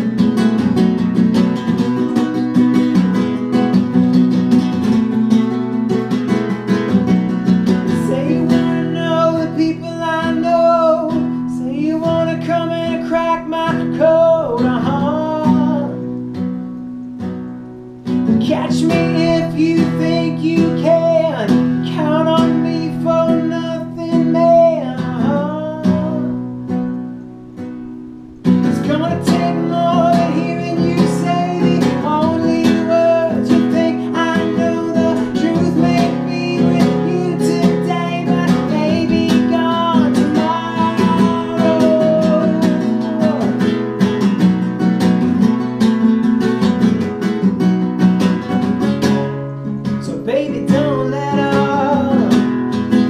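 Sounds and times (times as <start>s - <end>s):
acoustic guitar strummed: 0.0s - 53.0s.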